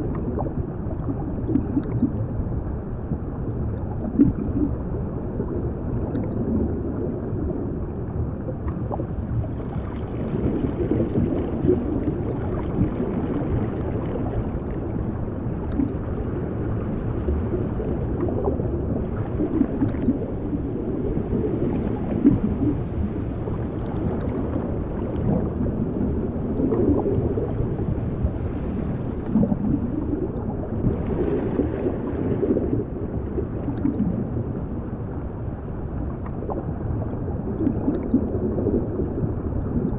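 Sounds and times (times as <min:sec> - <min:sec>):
gurgling bubbles: 0:00.0 - 0:39.9
underwater churning water: 0:00.0 - 0:39.9.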